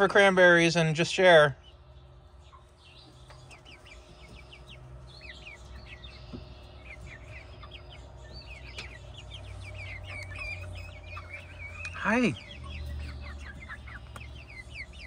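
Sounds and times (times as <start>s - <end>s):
hens squawking: 0.0s - 15.0s.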